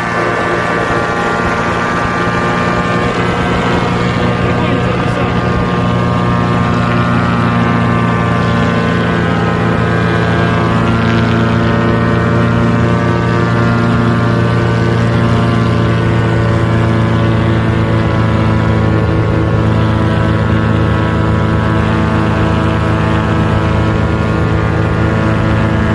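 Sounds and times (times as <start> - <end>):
paramotor engine droning: 0.0 - 25.9.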